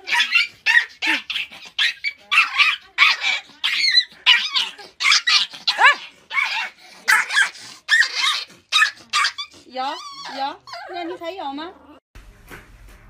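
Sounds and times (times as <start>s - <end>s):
puppy yelping and barking: 0.0s - 11.2s.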